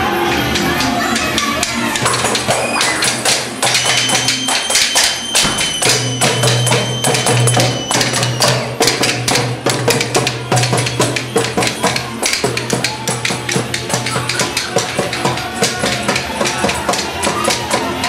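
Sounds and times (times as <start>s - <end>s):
frame drum beats: 0.6s - 18.0s.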